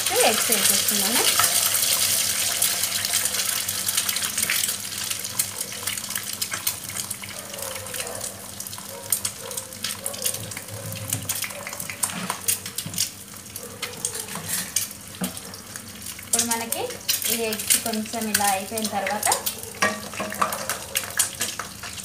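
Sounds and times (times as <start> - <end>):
eggs sizzling in oil: 0.0 - 22.0.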